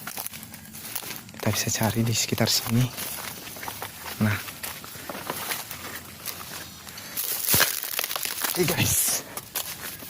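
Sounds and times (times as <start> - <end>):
leaves and twigs crunching: 0.0 - 10.0
sharp crackle of twigs: 0.0 - 10.0.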